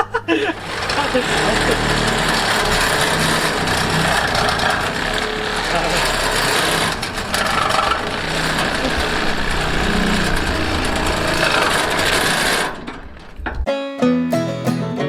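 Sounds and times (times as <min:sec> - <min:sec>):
power tool running: 0:00.3 - 0:13.6.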